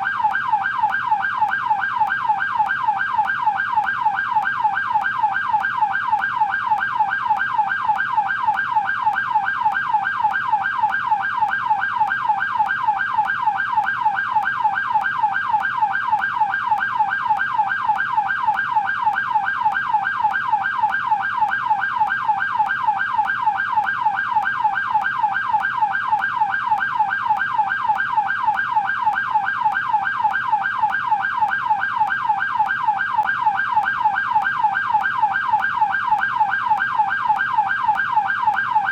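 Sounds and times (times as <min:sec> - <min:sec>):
police car yelp siren: 0:00.0 - 0:38.9.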